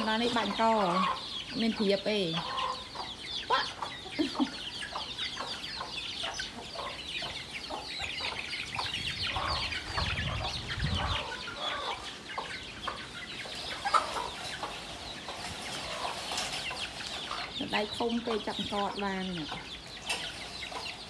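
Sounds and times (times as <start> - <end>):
chicks peeping: 0.0 - 21.0
hen clucking: 0.0 - 21.0.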